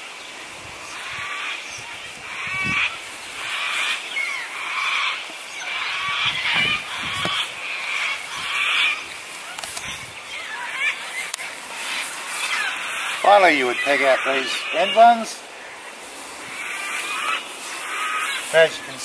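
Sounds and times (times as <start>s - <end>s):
birds calling harshly: 0.0s - 19.0s.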